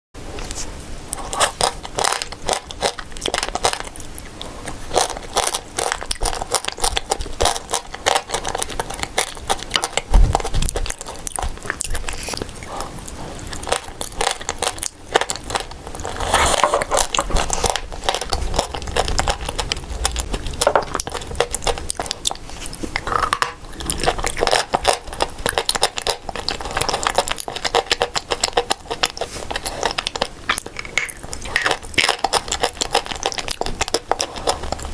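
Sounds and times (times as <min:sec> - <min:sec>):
crunchy chewing: 0:00.4 - 0:34.9.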